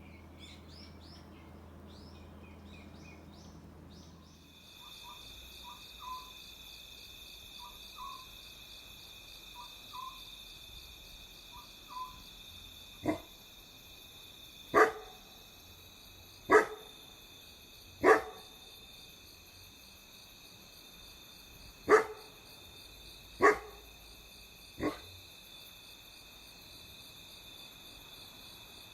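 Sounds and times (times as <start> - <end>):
night insects trilling: 2.9 - 28.9.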